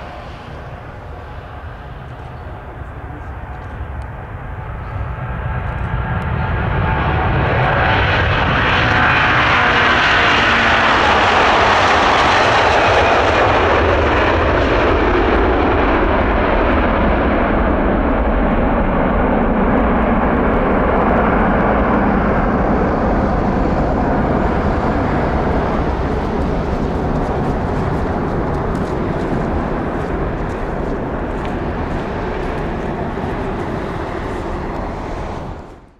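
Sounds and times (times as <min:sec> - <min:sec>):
jet aircraft roar: 0:00.0 - 0:35.9.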